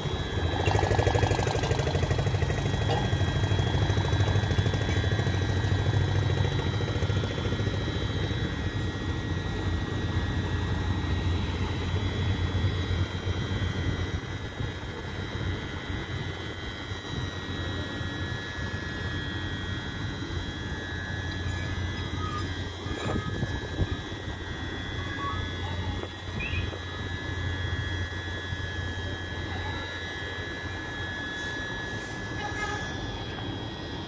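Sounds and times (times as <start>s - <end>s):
electric locomotive low hum: 0.0s - 34.0s
high-pitched whine: 0.0s - 34.0s.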